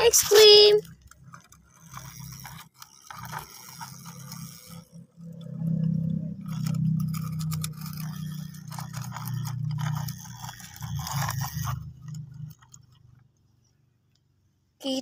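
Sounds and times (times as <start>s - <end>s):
plastic toy cars scraping and clicking: 0.0s - 15.0s.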